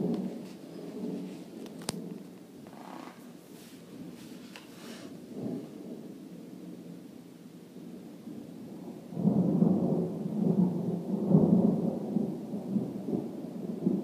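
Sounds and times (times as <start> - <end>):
thunder rumbling: 0.0 - 4.4, 5.1 - 14.0.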